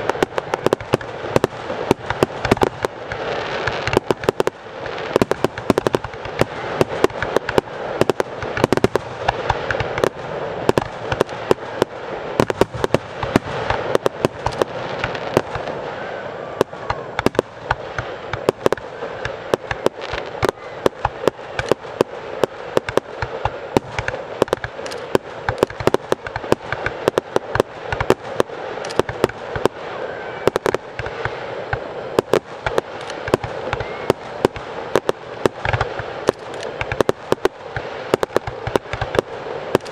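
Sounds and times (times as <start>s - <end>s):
fireworks shells bursting: 0.0s - 16.0s, 16.6s - 29.8s, 30.4s - 39.9s
fireworks crackling: 0.0s - 39.9s.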